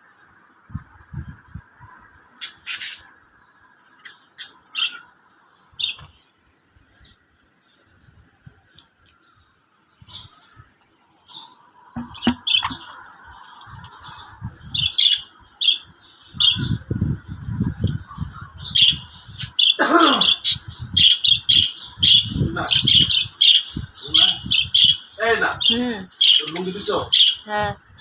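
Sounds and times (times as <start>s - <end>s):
birds chirping and squawking: 0.0s - 28.0s.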